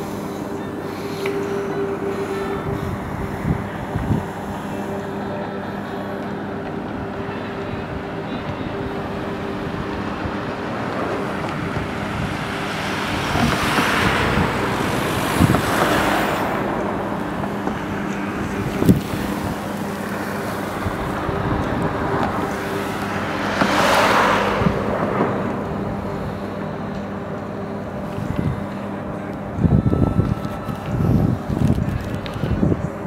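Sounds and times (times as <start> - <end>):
steady low hum: 0.0 - 33.0
vehicles passing by: 0.0 - 33.0.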